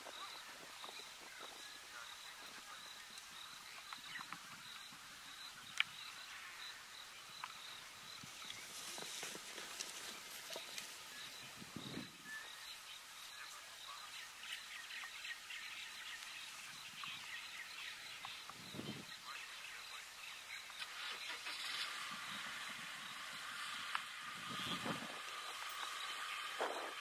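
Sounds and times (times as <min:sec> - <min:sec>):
birds chirping: 0:00.0 - 0:27.0
steady high background hiss: 0:00.0 - 0:27.0.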